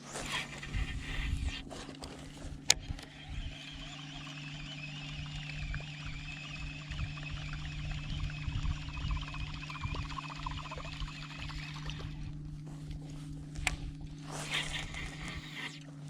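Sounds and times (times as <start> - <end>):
fishing reel whirring: 0.0 - 16.0
steady low hum: 0.0 - 16.0.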